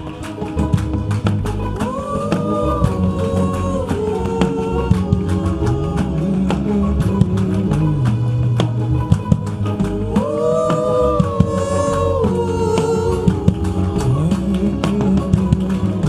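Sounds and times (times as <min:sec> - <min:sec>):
bass guitar line: 0:00.0 - 0:16.0
light percussion: 0:00.0 - 0:16.0
person singing: 0:00.0 - 0:16.0.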